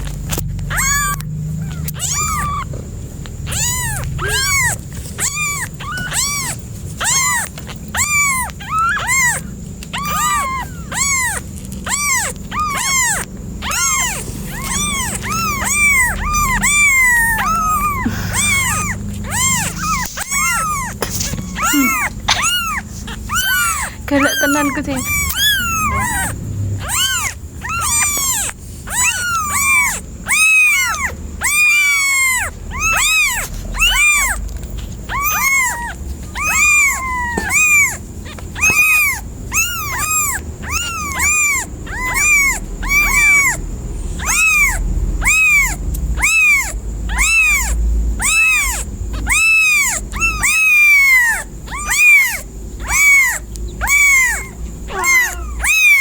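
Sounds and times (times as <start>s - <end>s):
kitten meowing: 0.0s - 56.0s.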